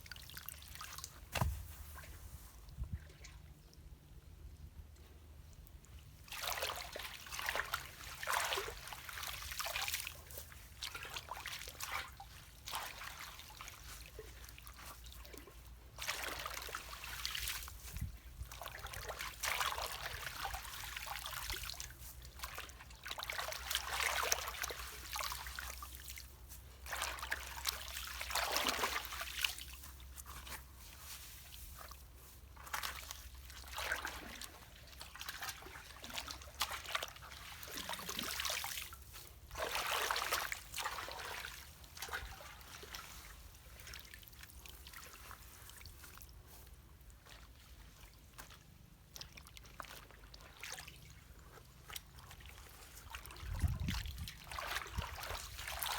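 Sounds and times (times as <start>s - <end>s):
water trickling and splashing: 6.2s - 55.9s.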